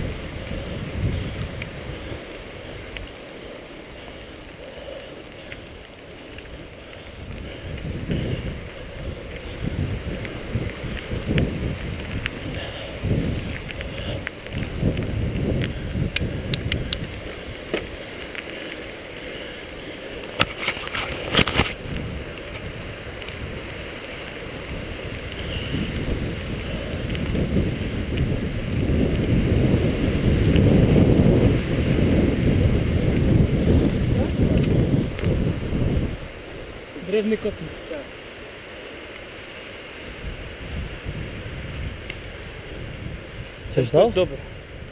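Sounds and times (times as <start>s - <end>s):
tyres rolling over gravel: 0.0s - 38.1s
wind rushing over microphone: 0.0s - 44.9s.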